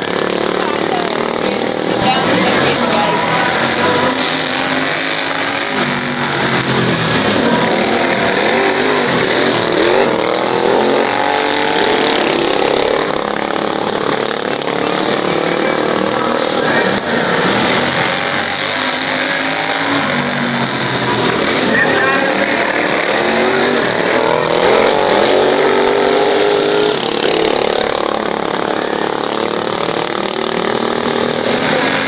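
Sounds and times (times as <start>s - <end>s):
racing lawn mower engines revving: 0.0s - 32.0s.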